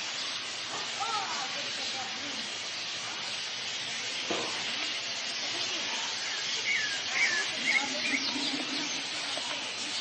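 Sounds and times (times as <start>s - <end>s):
sparrows chirping: 0.0s - 10.0s
steady hiss: 0.0s - 10.0s.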